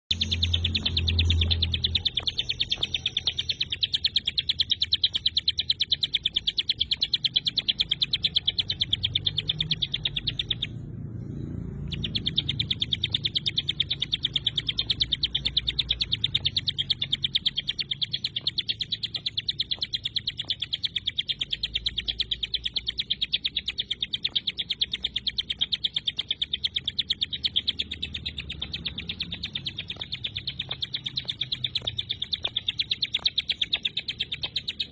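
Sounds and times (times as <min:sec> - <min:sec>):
bird singing rapid high notes: 0:00.0 - 0:34.9.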